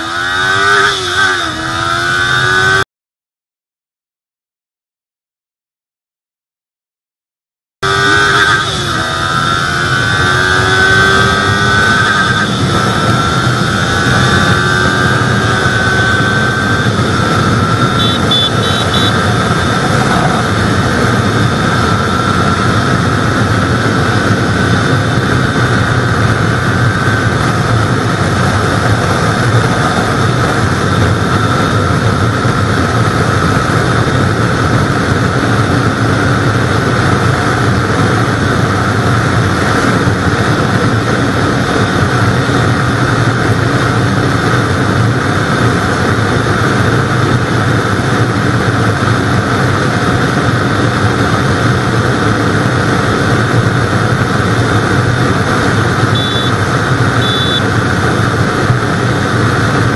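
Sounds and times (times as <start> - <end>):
motorcycle engine at high revs: 0.0 - 2.8, 7.8 - 59.9
wind rush on microphone: 7.8 - 59.9.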